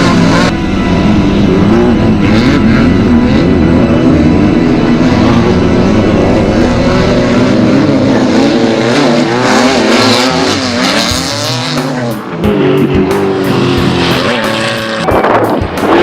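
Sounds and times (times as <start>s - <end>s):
race vehicle engine revving: 0.0s - 16.0s.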